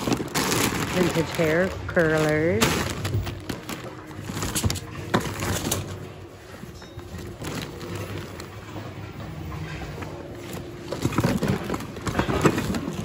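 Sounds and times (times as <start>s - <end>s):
plastic and paper objects rustling: 0.0s - 13.0s.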